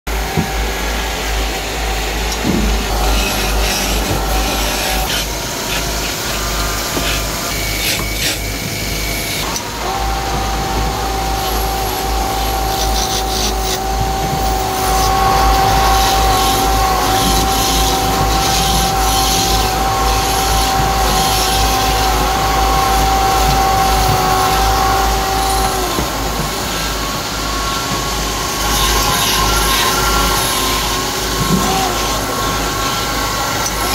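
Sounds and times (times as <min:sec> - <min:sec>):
steady high whine: 0:00.1 - 0:33.9
steady low hum: 0:00.1 - 0:33.9
wood lathe running: 0:00.1 - 0:33.9
chisel scraping spinning wood: 0:02.3 - 0:33.9.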